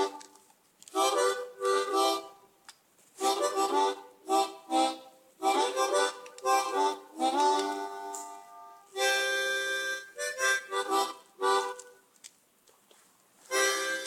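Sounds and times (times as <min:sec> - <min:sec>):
harmonica chords: 0:00.0 - 0:02.6, 0:03.2 - 0:12.1, 0:13.5 - 0:14.0.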